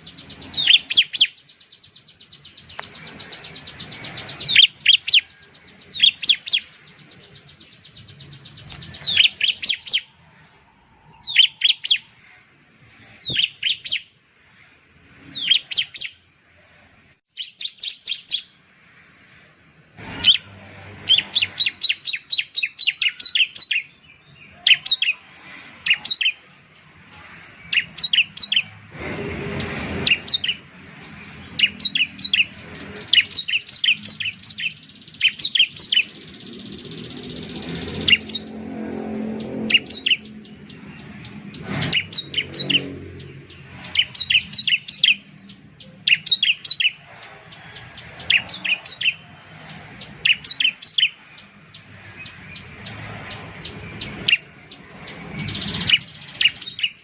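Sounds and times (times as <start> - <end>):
bird chirping in rapid bursts: 0.0 - 10.4, 11.1 - 16.4, 17.3 - 19.0, 20.1 - 28.9, 29.6 - 57.0.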